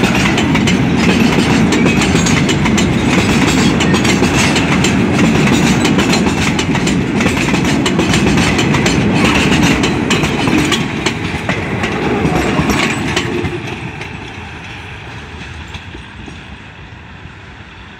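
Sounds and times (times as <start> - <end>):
wheels clicking over rail joints: 0.0 - 16.6
train rumbling: 0.0 - 17.9.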